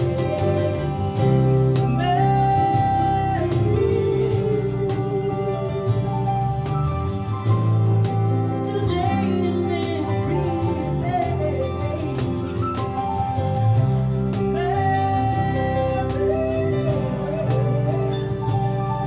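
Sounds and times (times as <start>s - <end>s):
person singing: 0.0s - 6.7s, 8.3s - 19.0s
bass guitar: 0.0s - 19.0s
guitar: 0.0s - 19.0s
keyboard chords: 0.0s - 19.0s.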